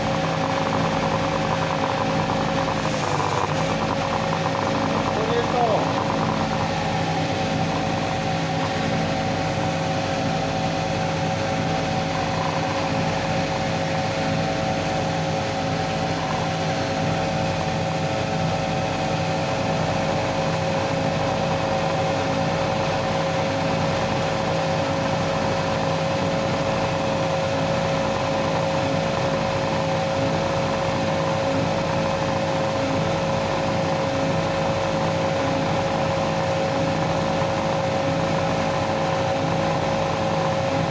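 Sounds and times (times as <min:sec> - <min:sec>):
belt sander running: 0:00.0 - 0:40.9.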